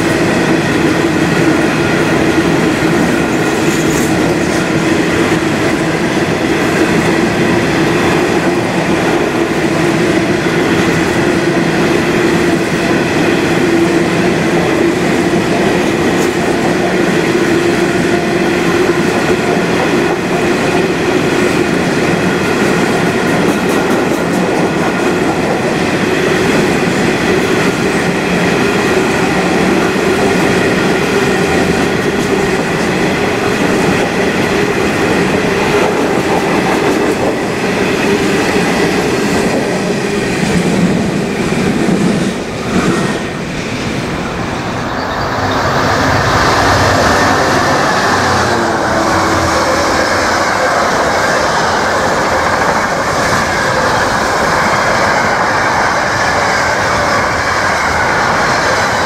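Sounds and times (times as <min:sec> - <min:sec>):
steel wheels on rail: 0:00.0 - 0:59.0.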